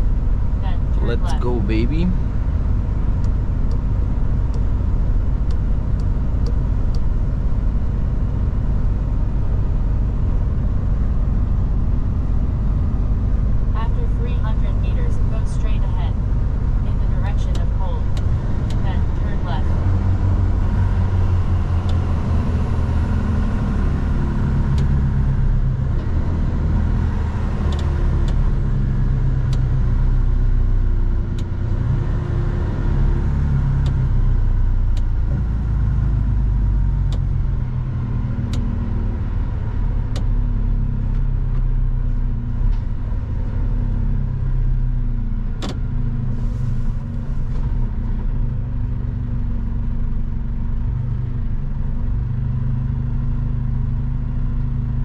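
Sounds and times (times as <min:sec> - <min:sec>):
diesel engine drone: 0:00.0 - 0:55.0
road and tyre noise: 0:00.0 - 0:55.0.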